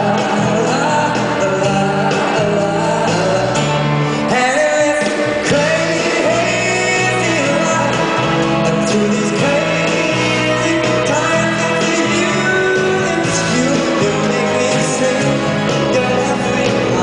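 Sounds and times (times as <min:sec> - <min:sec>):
big band music: 0:00.0 - 0:17.0.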